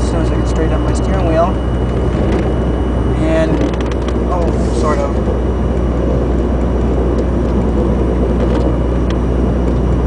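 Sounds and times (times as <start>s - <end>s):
car road and drivetrain noise: 0.0s - 10.0s.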